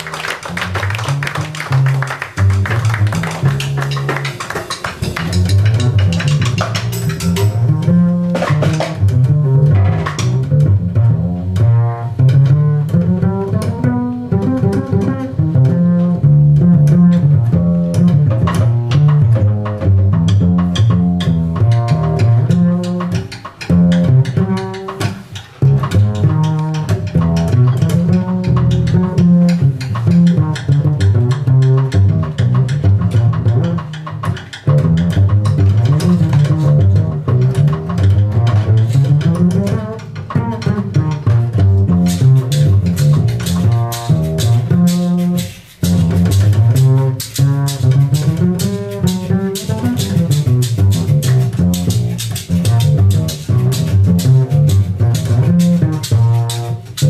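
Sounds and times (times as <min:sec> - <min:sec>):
jazz band playing: 0:00.0 - 0:57.0
plucked double bass: 0:00.0 - 0:57.0.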